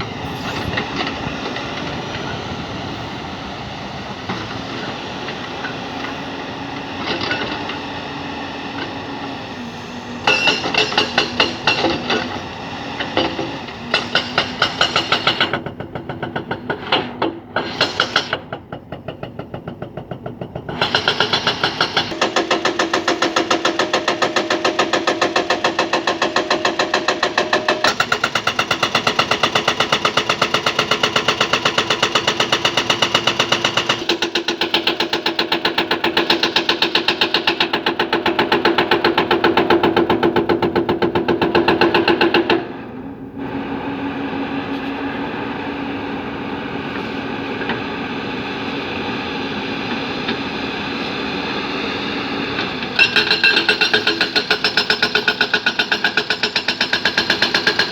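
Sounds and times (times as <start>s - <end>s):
heavy machinery diesel engine clatter: 0.0s - 57.9s.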